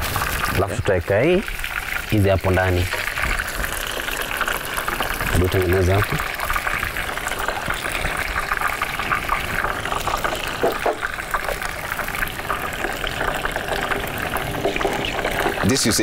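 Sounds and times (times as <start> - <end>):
water boiling in a pan: 0.0 - 16.0.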